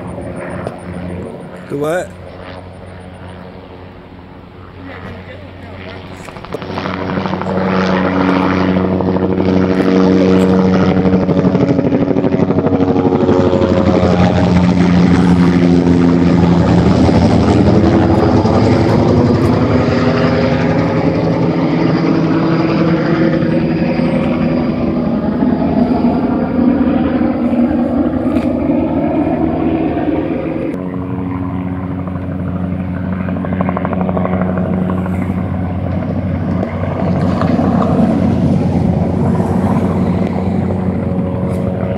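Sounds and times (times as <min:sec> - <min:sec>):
helicopter rotor noise overhead: 0:00.0 - 0:41.9.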